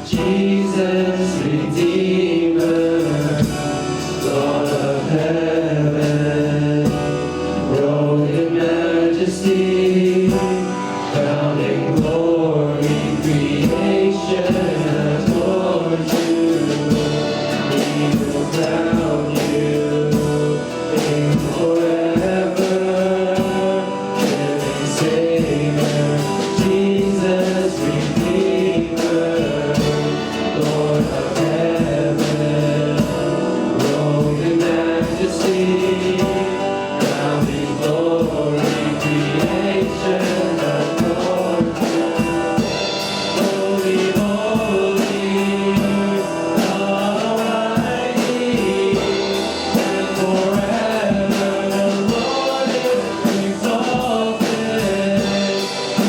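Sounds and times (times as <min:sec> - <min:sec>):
band with drums: 0:00.0 - 0:56.0
voices singing together: 0:00.0 - 0:56.0.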